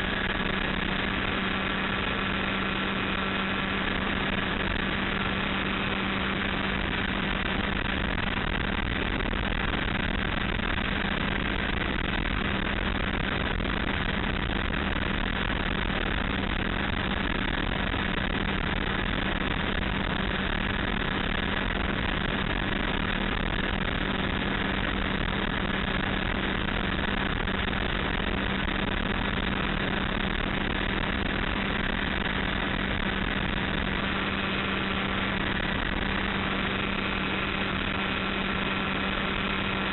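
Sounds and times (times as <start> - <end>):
light aircraft engine droning: 0.0 - 39.9
wind rushing past cockpit: 0.0 - 39.9.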